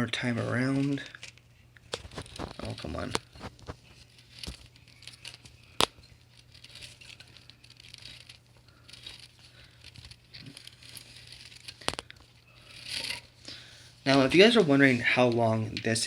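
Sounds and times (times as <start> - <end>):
rustling and scraping handling noises: 0.0 - 16.0.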